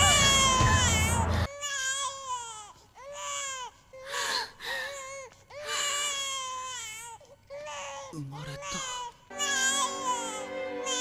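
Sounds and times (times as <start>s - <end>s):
newborn baby crying: 0.0s - 11.0s.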